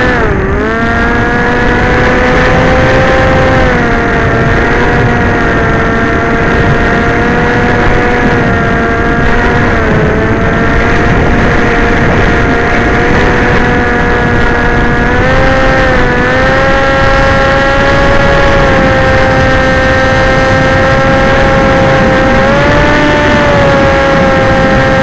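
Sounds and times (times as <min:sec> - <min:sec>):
model aircraft motor whine: 0:00.0 - 0:25.0
wind rumble: 0:00.0 - 0:25.0.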